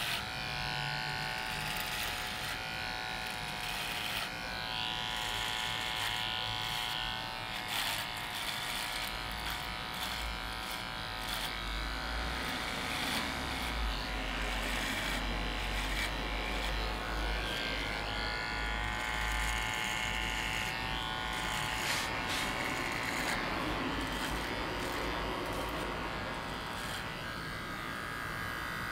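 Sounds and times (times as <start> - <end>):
hair trimmer buzzing: 0.0 - 28.9.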